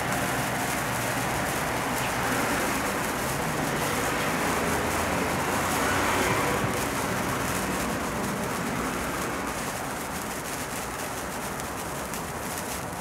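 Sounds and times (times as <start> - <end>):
sparkler fizzing and crackling: 0.0 - 13.0.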